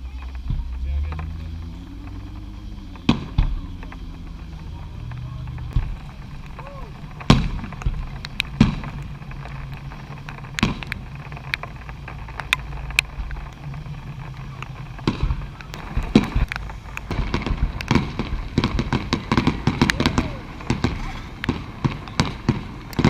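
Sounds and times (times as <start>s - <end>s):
fireworks bangs: 0.0s - 23.0s
fireworks crackling pops: 0.0s - 23.0s
low rumble: 0.0s - 23.0s.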